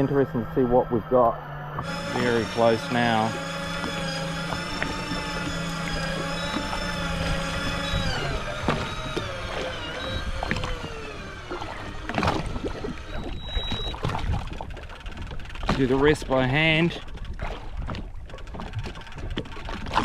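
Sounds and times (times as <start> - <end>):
electric fishing reel whine: 0.0 - 17.4.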